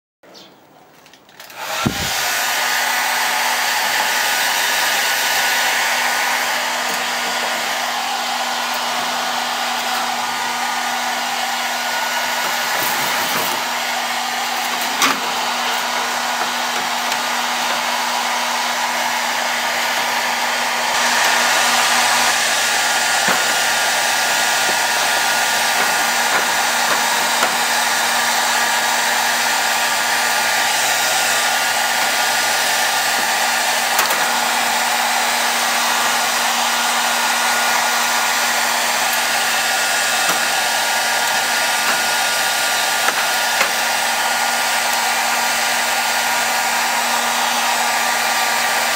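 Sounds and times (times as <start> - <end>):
hair dryer running: 1.4 - 48.9.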